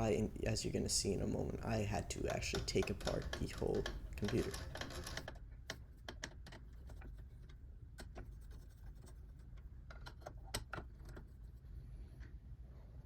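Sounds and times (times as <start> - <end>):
computer parts clicking and tapping: 0.0 - 11.3.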